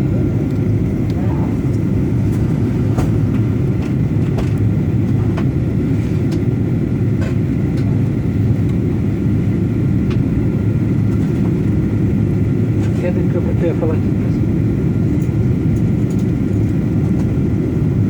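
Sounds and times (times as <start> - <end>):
jet engine roar in cabin: 0.0 - 18.0.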